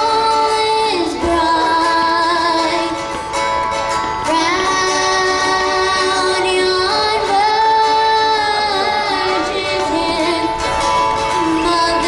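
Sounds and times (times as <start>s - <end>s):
girl singing into microphone: 0.0s - 3.3s, 4.1s - 12.0s
acoustic guitar: 0.0s - 12.0s.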